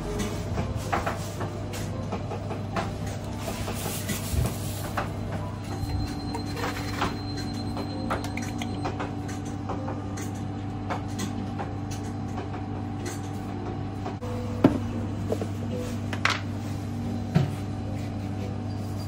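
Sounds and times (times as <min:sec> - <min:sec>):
kitchen machinery humming: 0:00.0 - 0:19.0.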